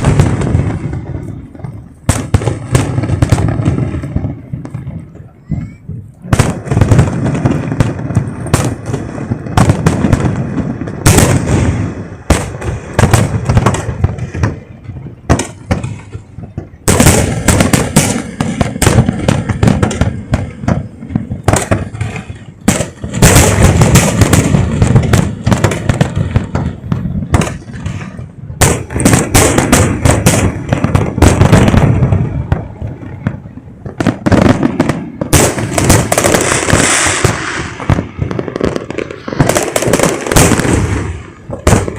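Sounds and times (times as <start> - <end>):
fireworks bangs: 0.0 - 41.9
fireworks crackle: 0.0 - 41.9.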